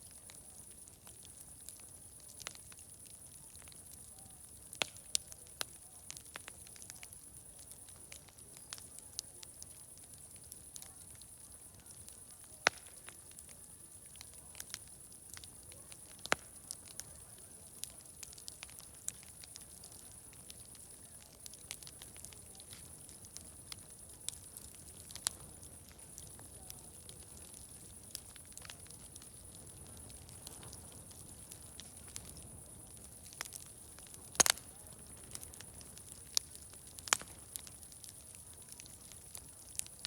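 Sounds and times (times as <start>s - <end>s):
sharp pops and snaps of fire: 0.0s - 40.0s
wood fire crackling: 0.0s - 40.0s.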